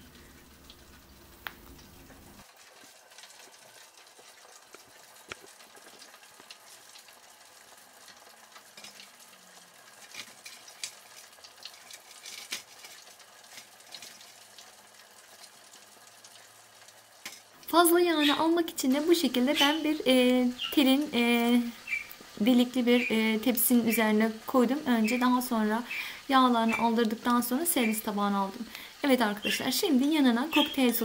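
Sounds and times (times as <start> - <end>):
fried chicken crackling: 0.0 - 31.0.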